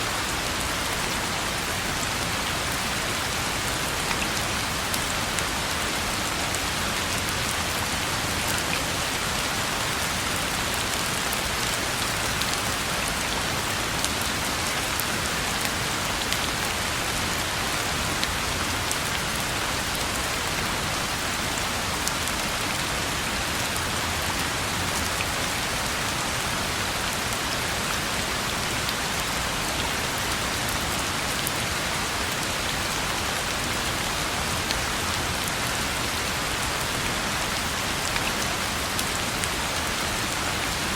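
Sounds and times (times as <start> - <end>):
rain falling on a road: 0.0 - 40.9.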